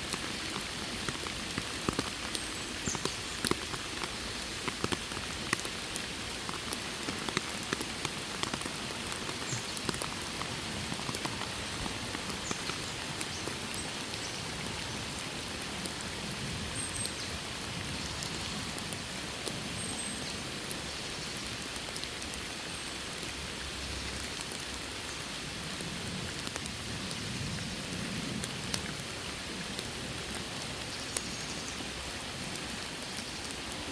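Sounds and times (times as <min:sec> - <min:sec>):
raindrops ticking on surfaces: 0:00.0 - 0:33.9
steady rain falling: 0:00.0 - 0:33.9.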